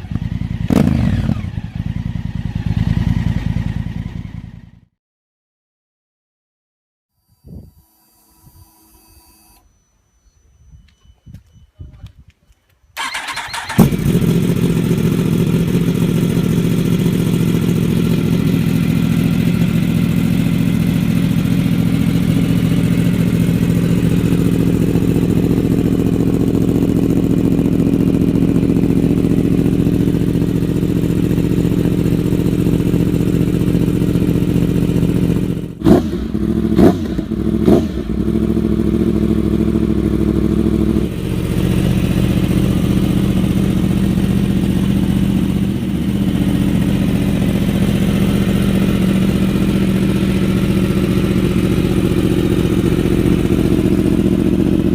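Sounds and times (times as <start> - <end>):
motorcycle engine starting and idling: 0.0 - 4.9, 13.0 - 54.9
motorcycle throttle blips: 7.4 - 54.9.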